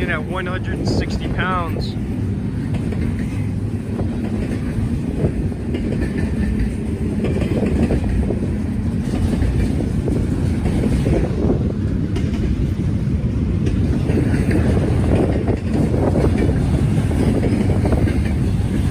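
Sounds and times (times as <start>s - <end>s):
freight train rumbling: 0.0s - 18.9s.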